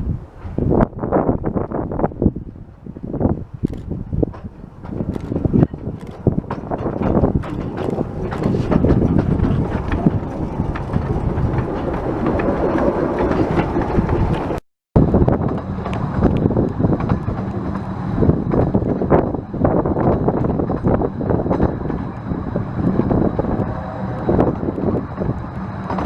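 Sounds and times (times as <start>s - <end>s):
train rumble: 0.0s - 26.0s
wind on microphone: 0.0s - 26.0s
train wheels clicking over rails: 3.2s - 14.6s, 15.4s - 26.0s.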